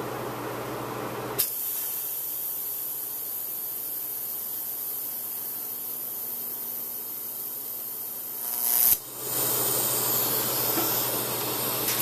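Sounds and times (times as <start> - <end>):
welding arc hiss: 1.4 - 12.0.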